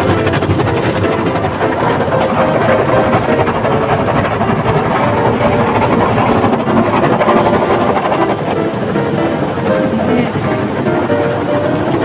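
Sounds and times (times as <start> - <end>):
car wash water jets: 0.0 - 12.0
washing machinery rumbling: 0.0 - 12.0.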